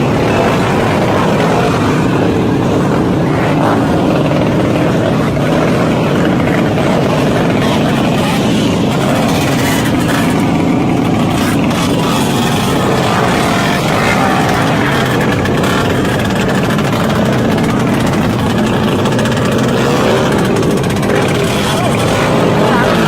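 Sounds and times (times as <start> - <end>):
small motorbike engines revving: 0.0 - 23.0.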